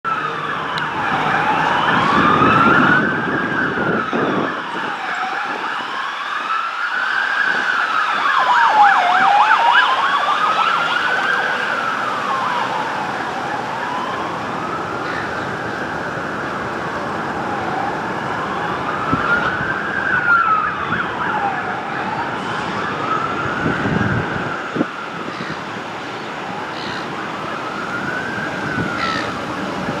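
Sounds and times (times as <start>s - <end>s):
fire truck siren wailing: 0.0s - 30.0s
road traffic rumble: 0.0s - 30.0s.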